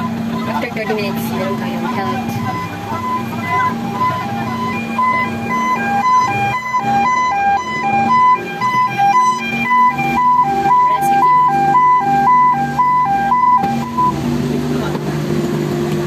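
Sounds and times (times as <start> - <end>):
two-tone siren: 0.0 - 14.2.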